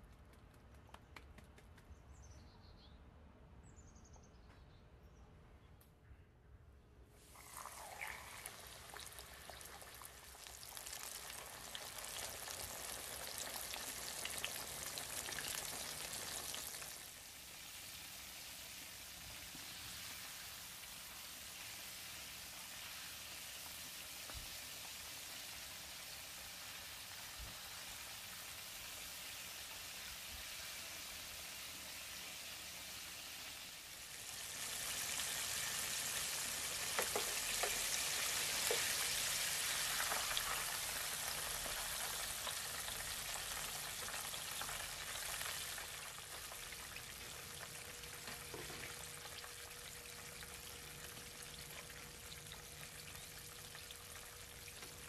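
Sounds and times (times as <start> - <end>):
fish deep-frying in oil: 7.2 - 55.0.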